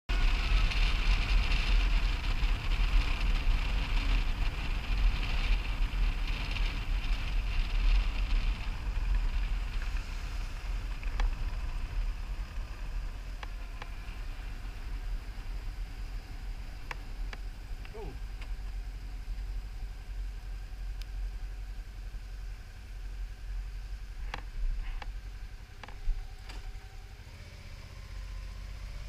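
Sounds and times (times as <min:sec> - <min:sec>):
motorcycle engine: 0:00.1 - 0:29.0.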